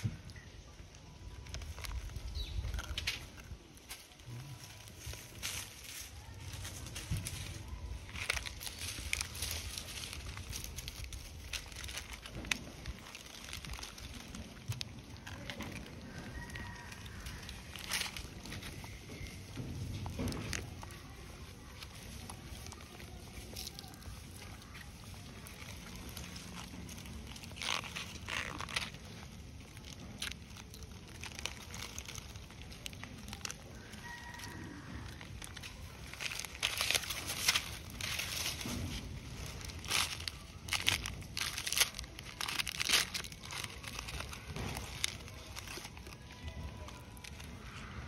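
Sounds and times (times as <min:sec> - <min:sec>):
plastic wrapper crinkling: 0:00.0 - 0:48.0.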